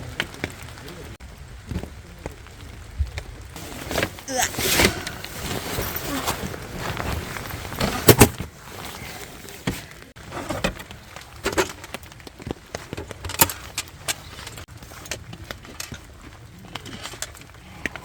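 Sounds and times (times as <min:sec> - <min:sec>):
objects being handled: 0:03.6 - 0:18.0.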